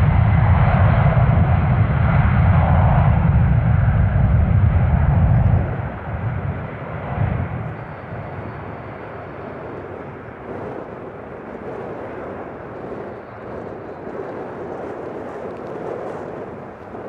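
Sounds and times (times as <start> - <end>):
distant jet engines rumbling: 0.0 - 17.0.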